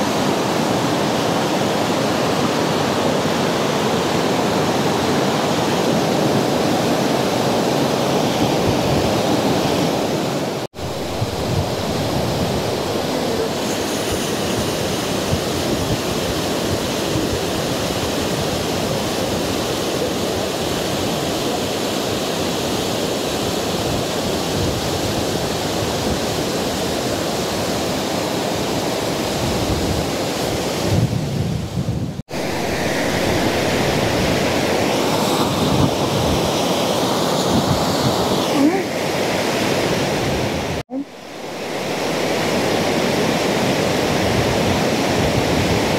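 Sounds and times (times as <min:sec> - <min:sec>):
fast-flowing river water: 0:00.0 - 0:31.0, 0:32.3 - 0:45.9.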